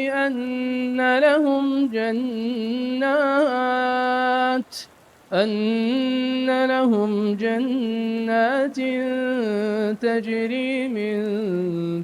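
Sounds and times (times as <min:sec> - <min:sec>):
person reciting in melodic chant: 0:00.0 - 0:12.0.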